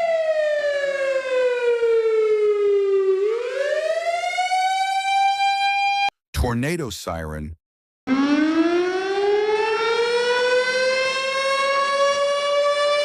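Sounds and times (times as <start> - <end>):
civil defense warning siren: 0.0 - 6.1, 8.1 - 13.0.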